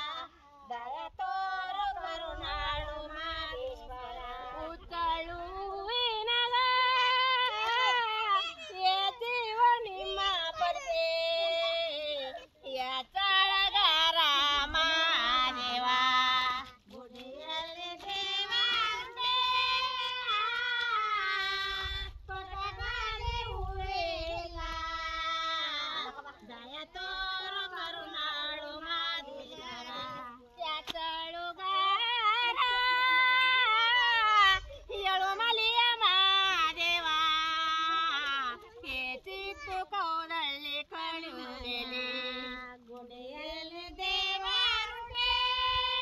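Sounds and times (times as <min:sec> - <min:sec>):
women singing folk song unaccompanied: 0:00.0 - 0:46.0.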